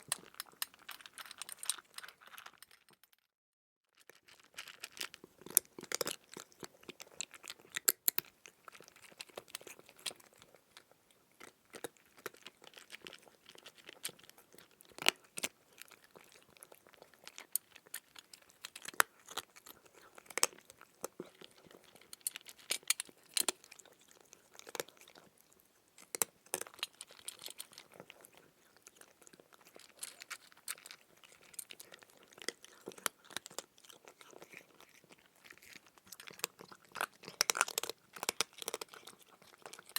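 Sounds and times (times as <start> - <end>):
crunchy chewing: 0.0 - 2.9, 4.1 - 39.9.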